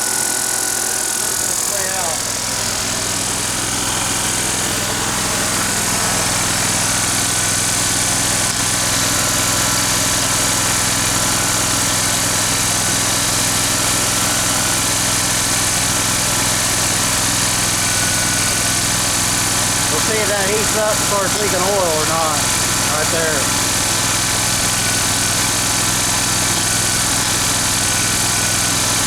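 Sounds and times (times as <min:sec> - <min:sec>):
mower engine running: 0:00.0 - 0:29.0.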